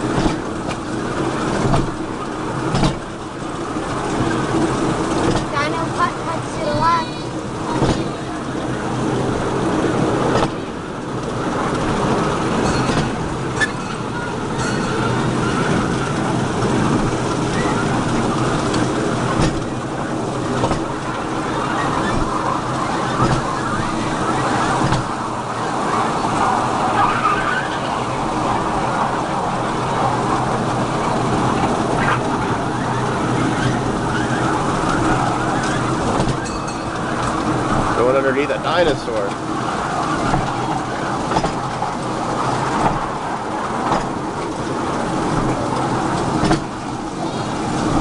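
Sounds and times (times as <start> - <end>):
ride train running: 0.0 - 48.0.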